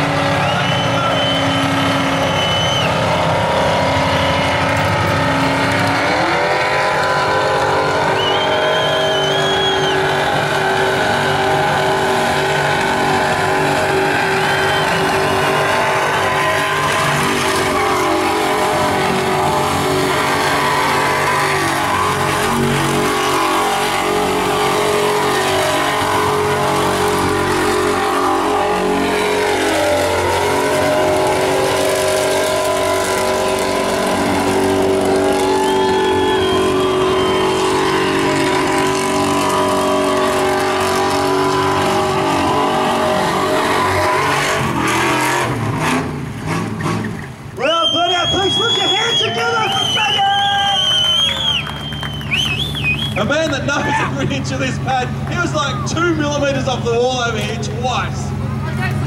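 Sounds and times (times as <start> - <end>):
engine at high revs: 0.0 - 59.0.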